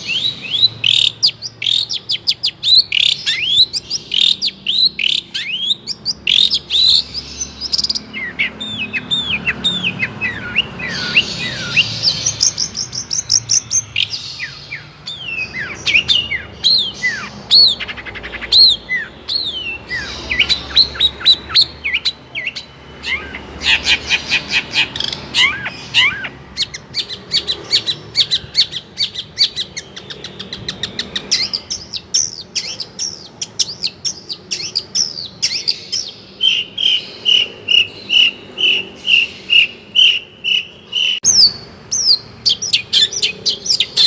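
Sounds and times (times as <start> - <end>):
shrike singing: 0.0 - 44.0.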